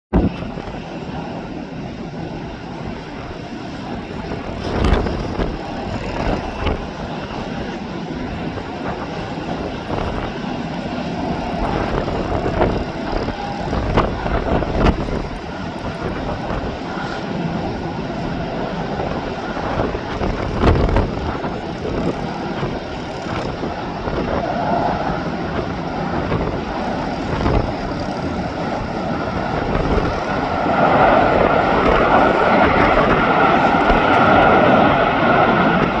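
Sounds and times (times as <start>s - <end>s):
wind thumps: 0.1s - 0.9s, 2.6s - 36.0s
jet engine roar: 0.1s - 36.0s.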